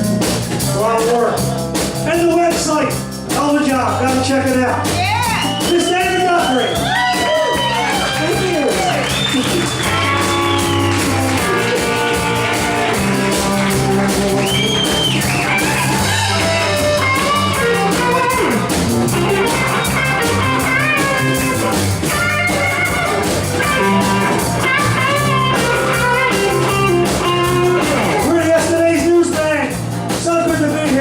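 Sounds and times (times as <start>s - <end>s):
live rock band playing: 0.0s - 31.0s
electric lead guitar: 2.9s - 31.0s.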